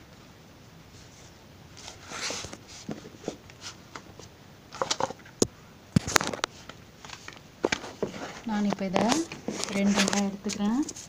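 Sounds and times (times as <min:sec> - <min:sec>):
handling rustle: 0:00.9 - 0:05.3, 0:06.0 - 0:11.0.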